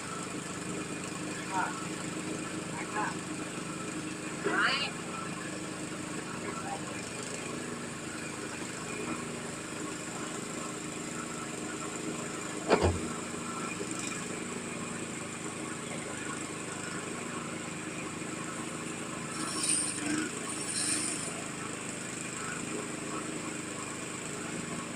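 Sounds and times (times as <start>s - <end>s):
small engine running: 0.0s - 24.9s.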